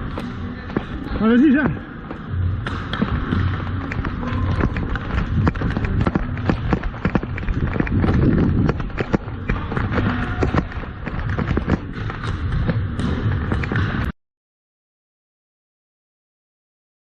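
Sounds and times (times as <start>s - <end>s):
hockey sticks and ball clacking: 0.0s - 14.1s
running footsteps: 0.0s - 14.1s.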